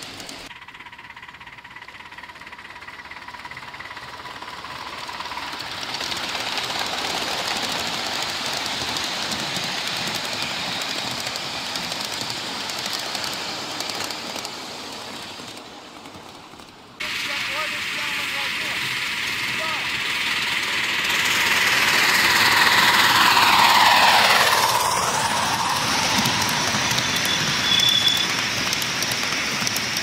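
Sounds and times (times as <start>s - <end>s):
steam train passing: 0.0s - 30.0s.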